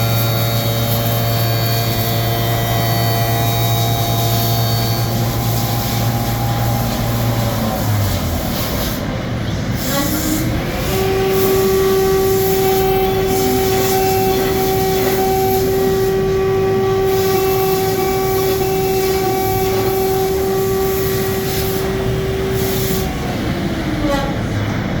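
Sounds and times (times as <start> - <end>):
cnc router spindle whine: 0.0 - 25.0
rushing noise: 4.0 - 25.0.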